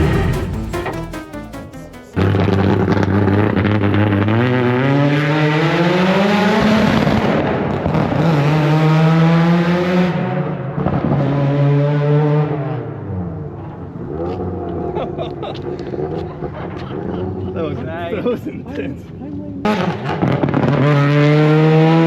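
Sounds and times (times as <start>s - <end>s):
race car engine accelerating: 0.0s - 1.6s, 2.2s - 17.6s, 19.7s - 22.0s.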